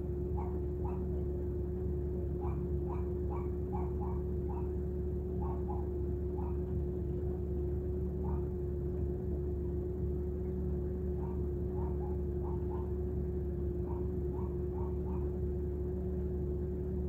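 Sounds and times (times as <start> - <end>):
car interior hum: 0.0 - 17.0.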